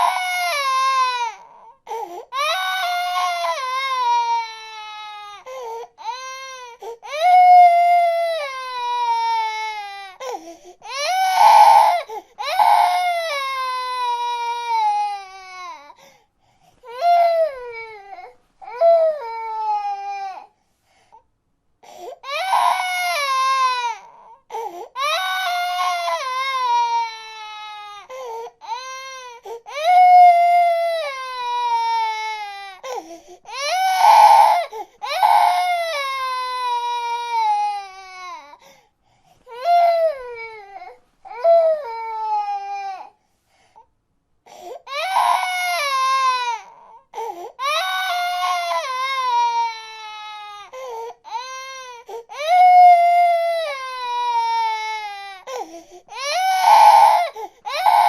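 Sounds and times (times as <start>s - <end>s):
baby crying: 0.0s - 16.0s, 16.8s - 20.5s, 21.9s - 38.6s, 39.5s - 43.2s, 44.5s - 58.0s.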